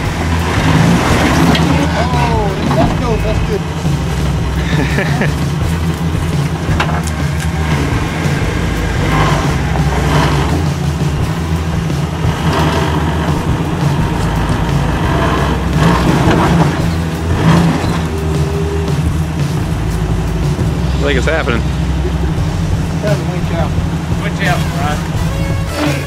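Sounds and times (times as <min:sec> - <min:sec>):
engine revving under load: 0:00.0 - 0:26.0.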